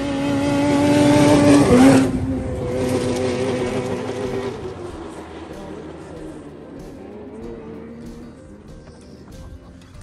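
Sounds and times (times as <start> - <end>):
snowmobile passing at speed: 0.0 - 8.7.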